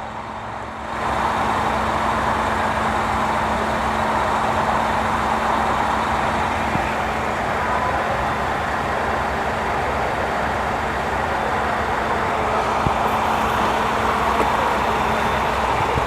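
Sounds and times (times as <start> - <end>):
truck engine idling hum: 0.1 - 16.0.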